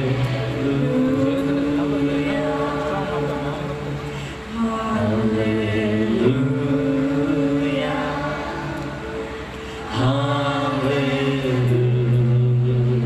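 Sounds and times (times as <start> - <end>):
slow worship song: 0.0 - 13.0.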